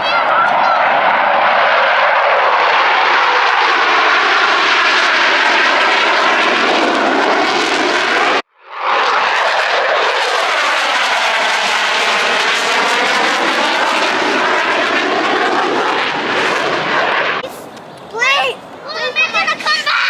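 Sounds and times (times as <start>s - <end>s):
jets roaring overhead: 0.0s - 20.0s.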